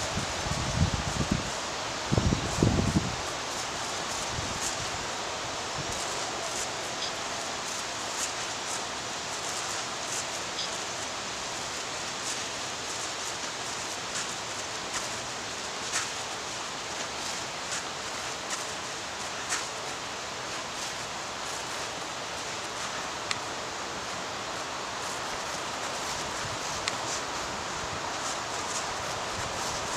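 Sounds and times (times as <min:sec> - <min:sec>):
steady hiss: 0:00.0 - 0:29.9.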